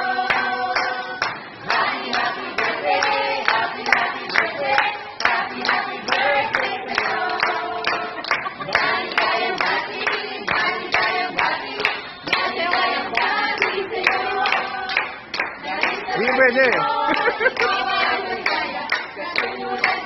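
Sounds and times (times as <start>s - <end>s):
women singing together: 0.0s - 20.0s
hands clapping on the beat: 0.2s - 20.0s.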